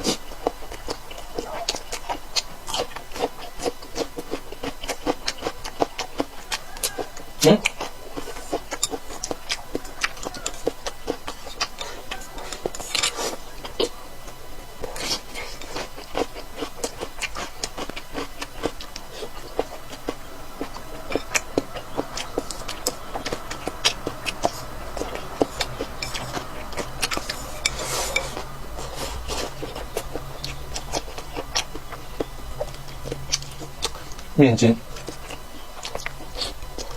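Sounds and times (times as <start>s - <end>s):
utensils clinking against dishes: 0.0s - 13.9s, 14.8s - 36.9s
chewing and mouth noises: 0.0s - 36.9s.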